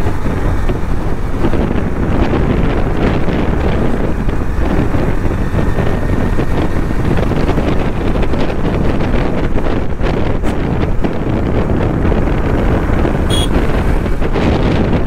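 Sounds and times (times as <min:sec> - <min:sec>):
motorcycle engine: 0:00.0 - 0:15.0
road noise: 0:00.0 - 0:15.0
wind rushing over microphone: 0:00.0 - 0:15.0.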